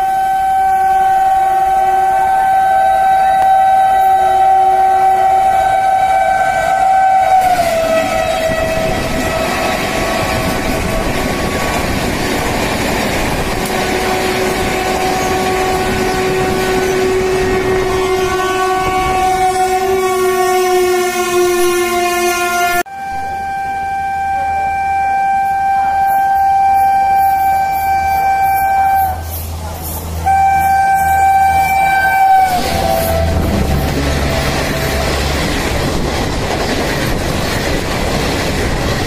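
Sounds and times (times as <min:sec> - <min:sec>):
locomotive horn blast: 0:00.0 - 0:11.6, 0:13.6 - 0:36.0
train rushing and rail clatter: 0:01.2 - 0:21.6, 0:27.8 - 0:39.0.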